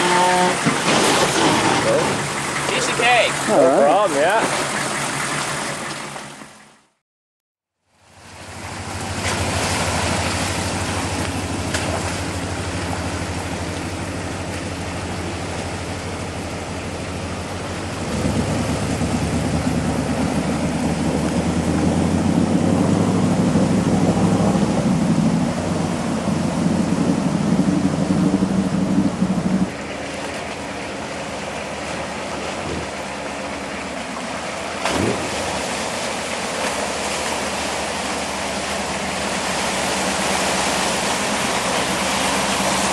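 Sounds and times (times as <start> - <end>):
truck engine running: 0.0 - 7.0, 8.0 - 42.9.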